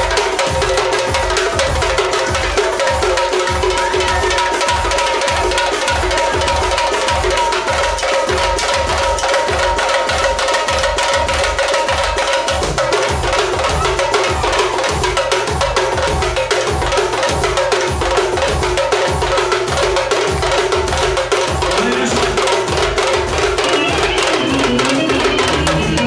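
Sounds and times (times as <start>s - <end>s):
live dance music: 0.0s - 26.0s
loud drum beating: 0.0s - 26.0s.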